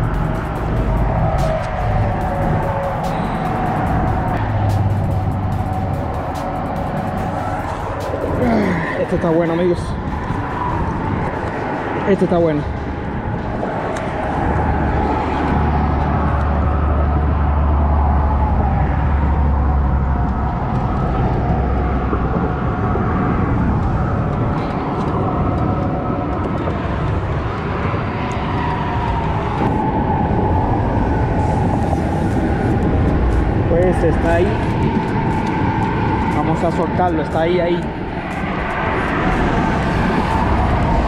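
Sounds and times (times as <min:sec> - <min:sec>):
low outdoor rumble: 0:00.0 - 0:41.0.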